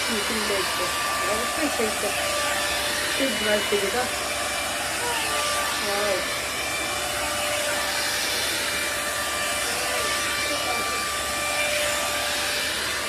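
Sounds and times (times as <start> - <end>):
faint motor whine: 0.0 - 13.0
hot air brush blowing: 0.0 - 13.0.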